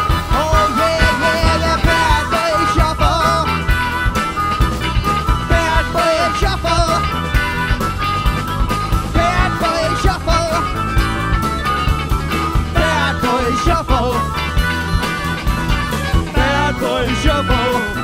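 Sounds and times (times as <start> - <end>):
drums and bass: 0.0 - 18.0
lead instrument bending notes: 0.0 - 18.0.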